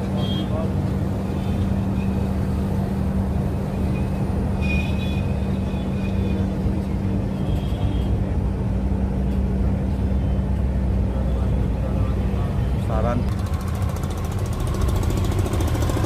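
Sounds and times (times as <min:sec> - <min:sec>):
train rumbling: 0:03.0 - 0:16.0.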